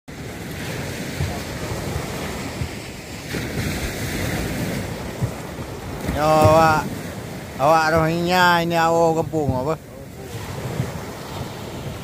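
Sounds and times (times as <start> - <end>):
surf washing up beach: 0.1 - 12.0
wind buffeting microphone: 0.1 - 12.0.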